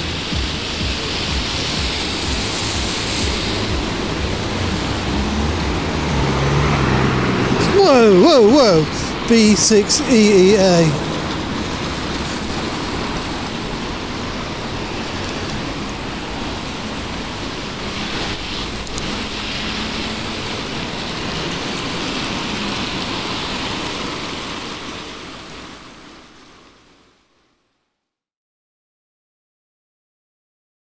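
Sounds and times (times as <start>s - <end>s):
traffic passing: 0.0s - 27.4s
tyres on wet road: 0.0s - 27.7s.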